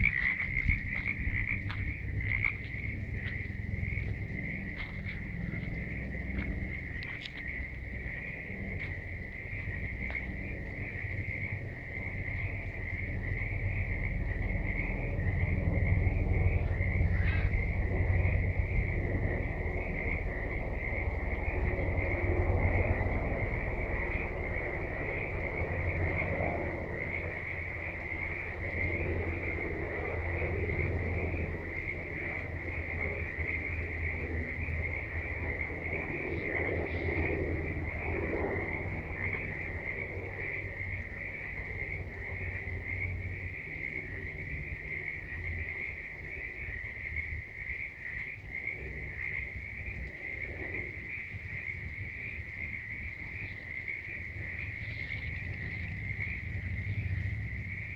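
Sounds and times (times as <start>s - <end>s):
low rumble: 0.0s - 46.8s
frogs calling: 0.0s - 57.9s.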